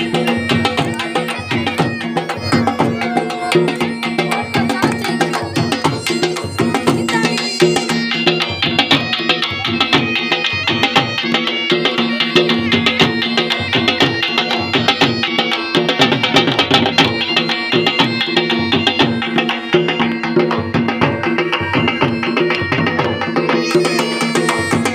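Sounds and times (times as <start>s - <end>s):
held steady melody: 0.0s - 24.9s.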